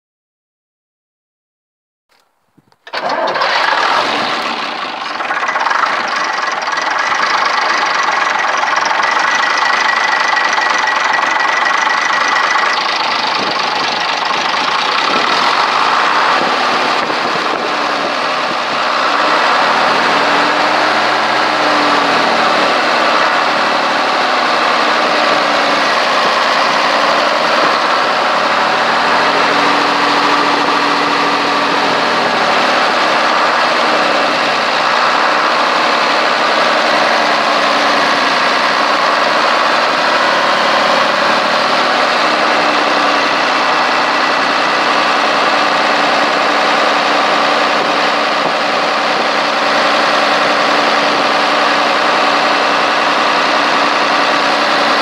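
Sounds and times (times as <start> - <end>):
diesel engine running: 2.8 - 55.0.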